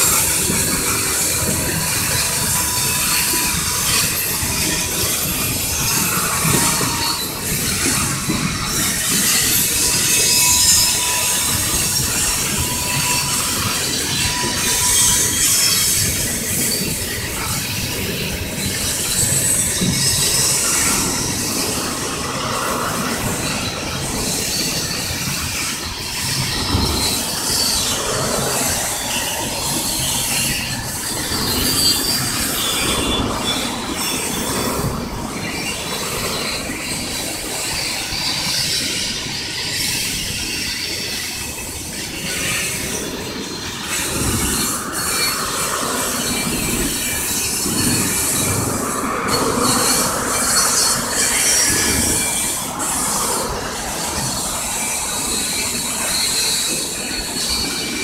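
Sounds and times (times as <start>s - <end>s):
freight train rolling past: 0.0s - 58.0s
steel wheels squealing: 0.0s - 58.0s.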